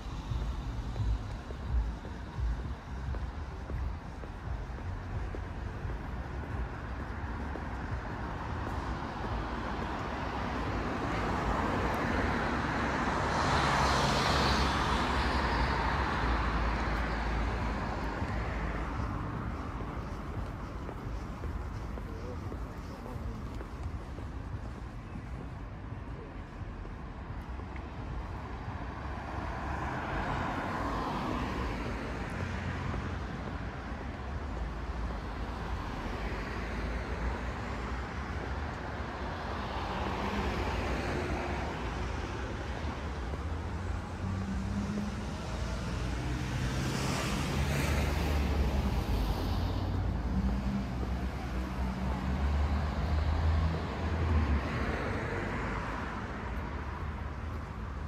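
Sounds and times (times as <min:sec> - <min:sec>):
cars passing: 0:00.0 - 0:58.0.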